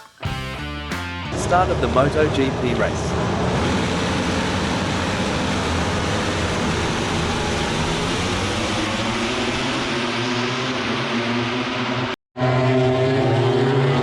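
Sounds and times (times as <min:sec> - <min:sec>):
racing motorcycles accelerating: 0:01.2 - 0:14.0.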